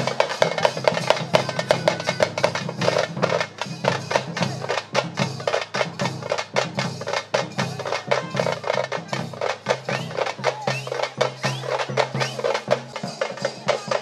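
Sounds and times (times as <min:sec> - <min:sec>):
frame drums beaten with sticks: 0:00.0 - 0:14.0.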